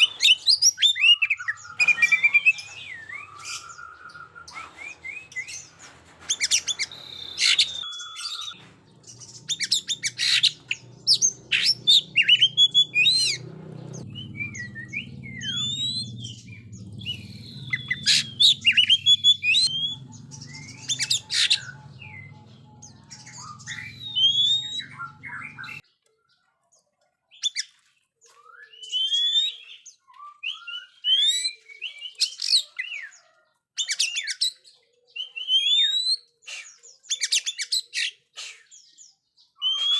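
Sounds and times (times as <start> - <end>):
magpie-robin singing: 0.0 - 25.9, 27.3 - 39.9.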